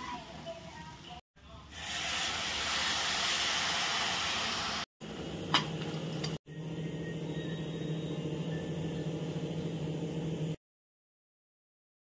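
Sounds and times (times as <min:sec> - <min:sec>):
low cooking hum: 0:00.1 - 0:10.6.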